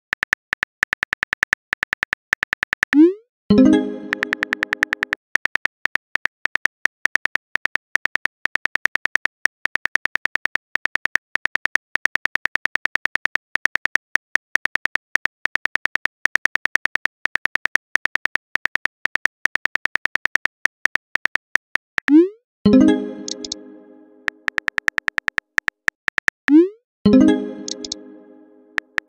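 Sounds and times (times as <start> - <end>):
phone keyboard typing clicks: 0.1 - 3.1, 4.0 - 22.2, 23.2 - 23.6, 24.2 - 26.7, 27.6 - 28.0, 28.8 - 29.0.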